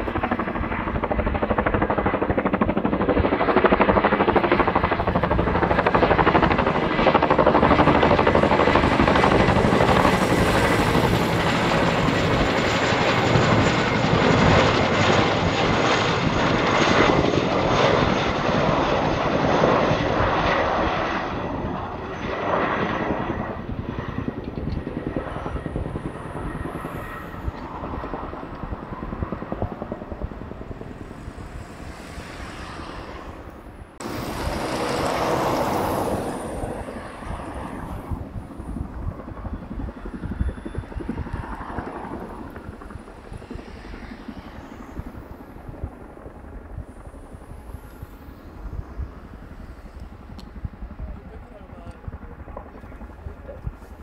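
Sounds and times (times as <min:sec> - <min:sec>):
helicopter rotors beating: 0:00.0 - 0:54.0
helicopter turbine noise: 0:00.0 - 0:54.0.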